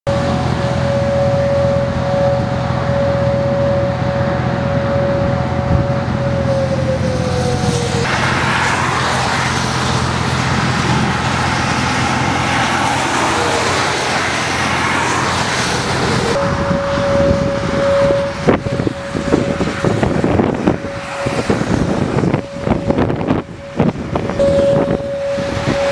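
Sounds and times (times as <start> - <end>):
traffic on wet highway: 0.1 - 25.9
warning siren: 0.1 - 25.9.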